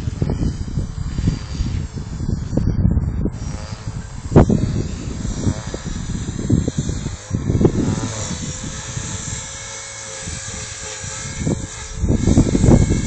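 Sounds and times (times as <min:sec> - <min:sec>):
rc helicopter motor whine: 0:00.0 - 0:13.0
wind buffeting microphone: 0:00.0 - 0:13.0.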